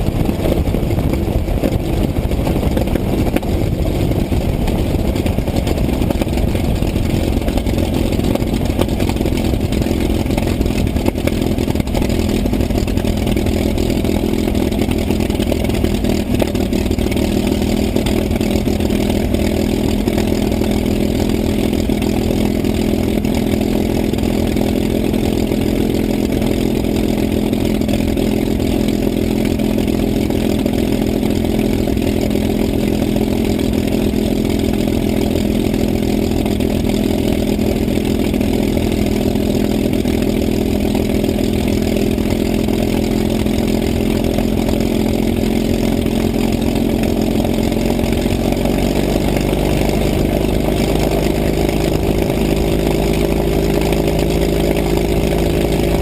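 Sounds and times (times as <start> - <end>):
aircraft piston engine idling: 0.0 - 56.0.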